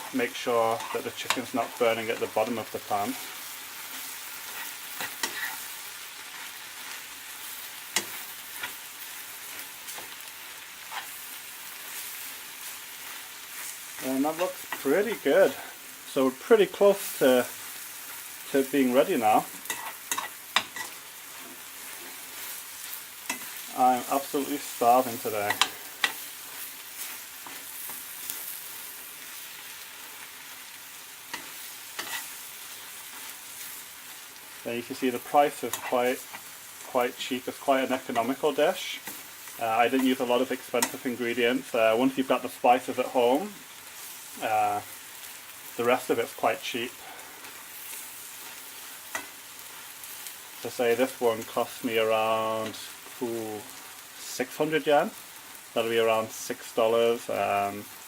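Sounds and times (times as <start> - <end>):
curry sizzling in a frying pan: 0.0 - 58.0.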